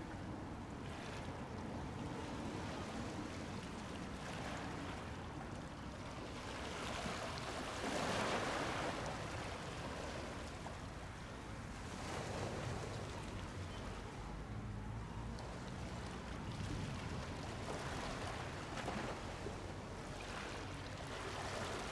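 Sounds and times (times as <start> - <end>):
sea water lapping on shore: 0.0 - 21.9.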